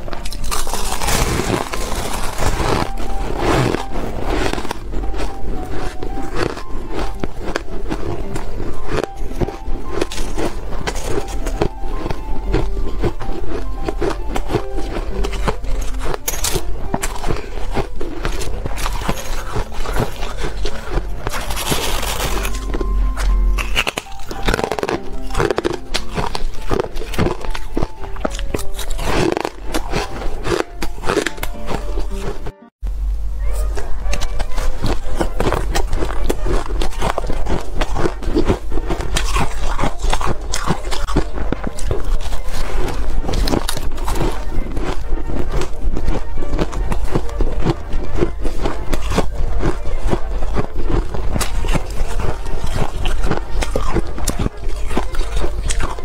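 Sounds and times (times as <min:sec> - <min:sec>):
ice crunching: 0:00.0 - 0:32.6, 0:34.2 - 0:56.0.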